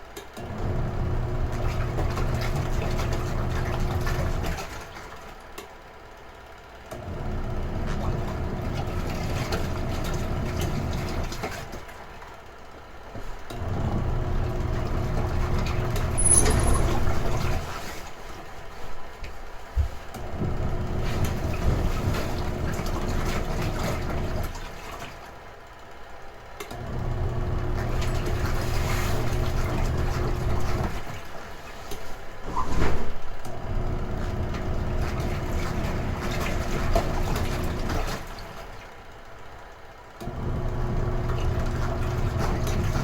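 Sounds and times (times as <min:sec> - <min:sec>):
washing machine clatter: 0:00.0 - 0:05.8, 0:06.9 - 0:25.8, 0:26.6 - 0:43.0
washing machine motor humming: 0:00.1 - 0:05.4, 0:06.8 - 0:26.0, 0:26.6 - 0:32.4, 0:33.4 - 0:43.0.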